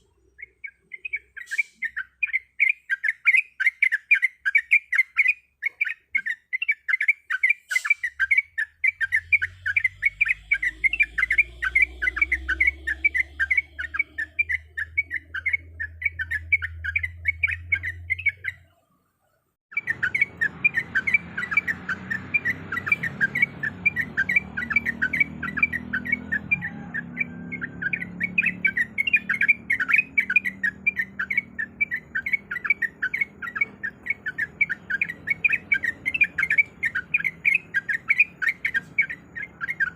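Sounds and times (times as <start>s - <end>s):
bird chirping rapidly: 0.0s - 18.9s, 19.7s - 39.9s.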